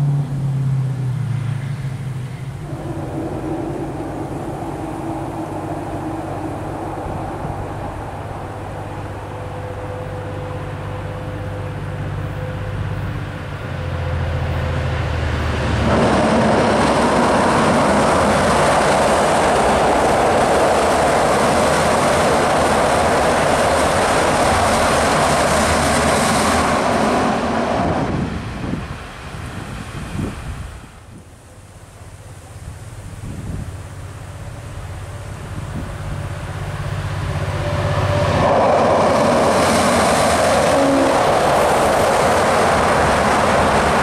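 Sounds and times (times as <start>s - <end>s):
diesel locomotive engine drone: 0.0s - 44.0s
train crossing rail bridge: 0.0s - 44.0s.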